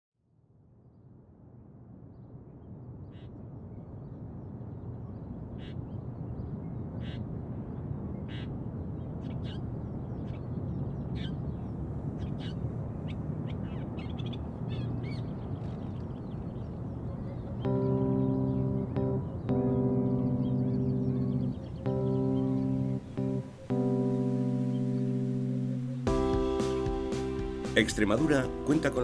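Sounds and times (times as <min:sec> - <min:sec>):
steady low rush: 0:01.0 - 0:29.0.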